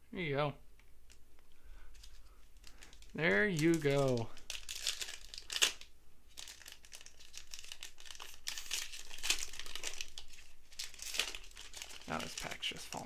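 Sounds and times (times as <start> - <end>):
foil wrapper crinkling and tearing: 1.9 - 13.0.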